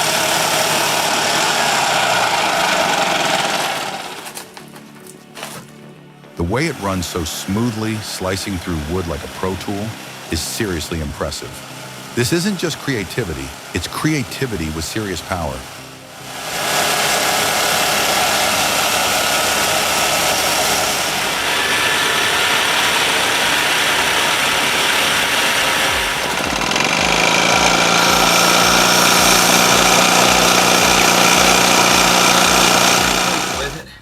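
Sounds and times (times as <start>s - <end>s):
small engine powering saw: 0.0s - 4.8s, 6.4s - 33.9s.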